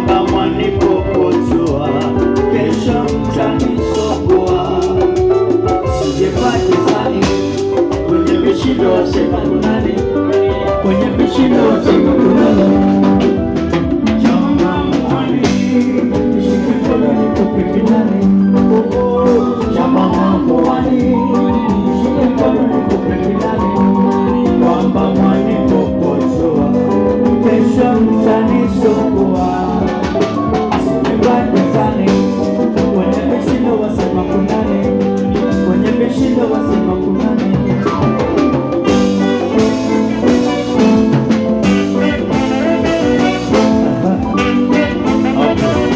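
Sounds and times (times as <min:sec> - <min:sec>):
live dance band: 0:00.0 - 0:45.9
person singing into a microphone: 0:00.0 - 0:45.9.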